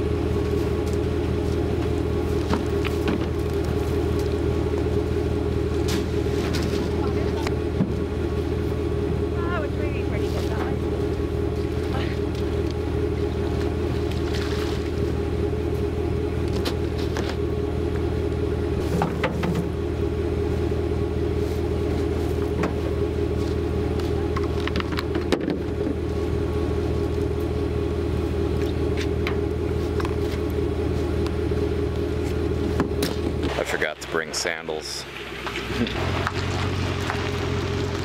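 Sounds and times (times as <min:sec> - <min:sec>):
engine idling: 0:00.0 - 0:38.0.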